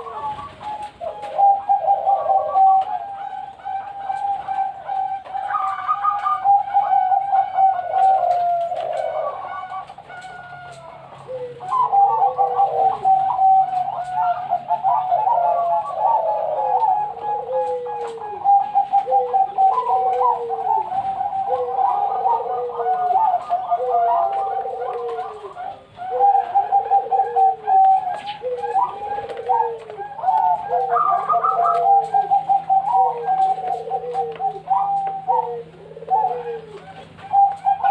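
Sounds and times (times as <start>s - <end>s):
doves cooing: 0.0s - 37.9s.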